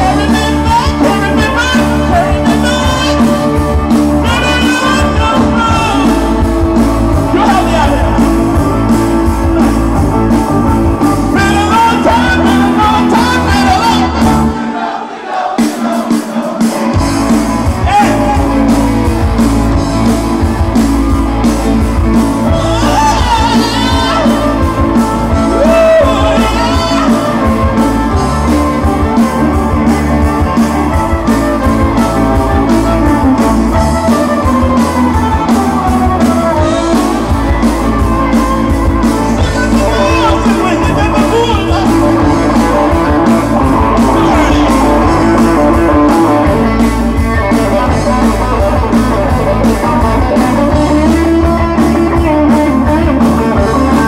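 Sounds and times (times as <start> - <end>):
man singing: 0.0 - 9.7, 10.4 - 18.9, 22.4 - 29.4, 32.6 - 54.0
live rock band playing: 0.0 - 54.0.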